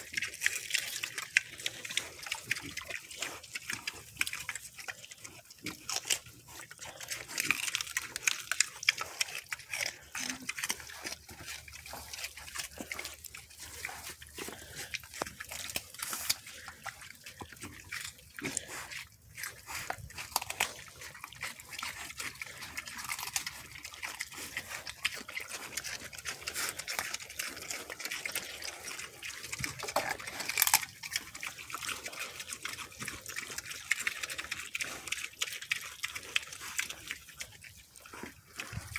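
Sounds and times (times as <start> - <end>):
pigs chewing celery: 0.0 - 38.9.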